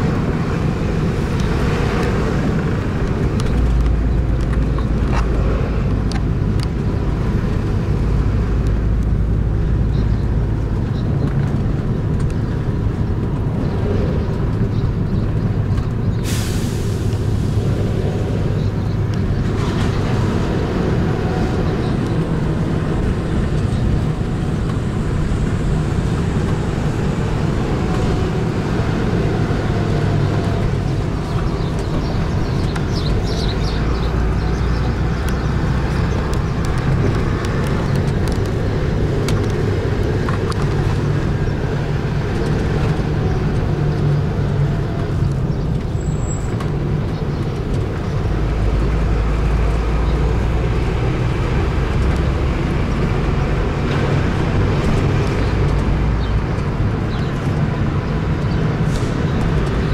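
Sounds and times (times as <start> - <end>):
bus engine rumble: 0.0 - 59.9
passing traffic: 0.0 - 59.9
road noise: 0.0 - 59.9.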